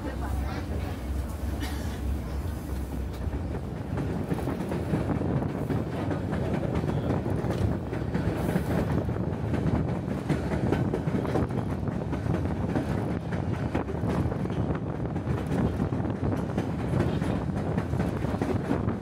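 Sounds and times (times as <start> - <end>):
railcar wheels rumbling on rails: 0.0 - 19.0
rattling and clickety-clack: 2.7 - 19.0.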